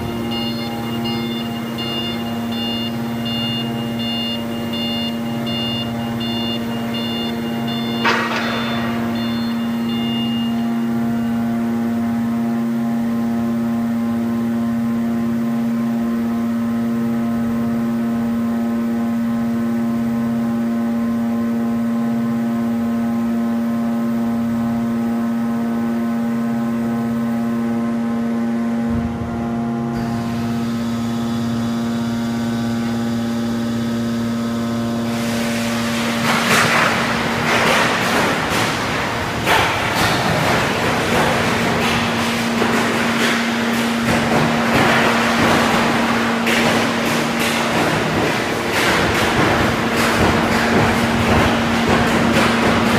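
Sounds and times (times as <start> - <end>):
hydraulic pump humming: 0.0 - 20.2, 24.1 - 52.9.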